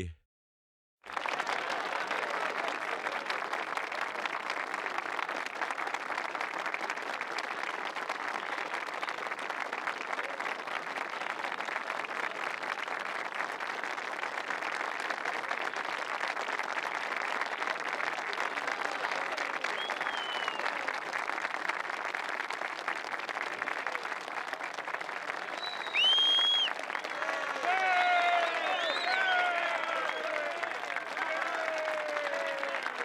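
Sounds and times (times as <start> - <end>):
crowd applauding: 1.1 - 33.0.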